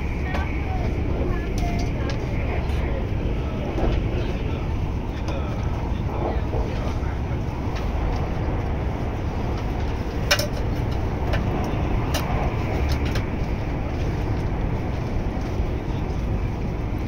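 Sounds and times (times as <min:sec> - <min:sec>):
train rumble inside cabin: 0:00.0 - 0:17.0.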